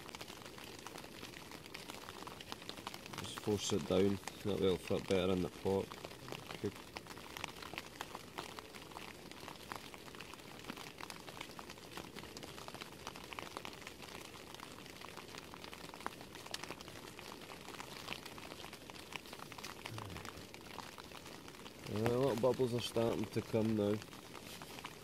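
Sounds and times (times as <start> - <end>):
pot ticking as it heats: 0.0 - 25.0.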